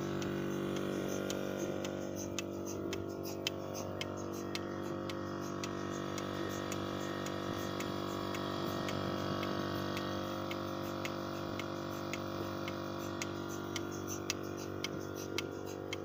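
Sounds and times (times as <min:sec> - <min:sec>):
milking machine motor hum: 0:00.0 - 0:16.0
pulsator clicking: 0:00.0 - 0:16.0.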